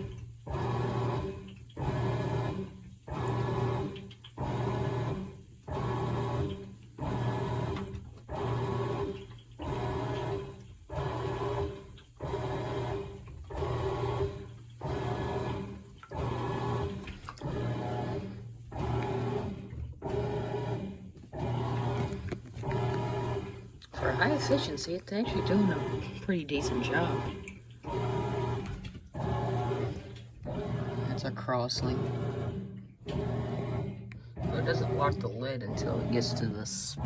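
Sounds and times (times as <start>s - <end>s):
water and clothes sloshing: 0.0s - 31.2s
washing machine agitating: 0.0s - 37.0s.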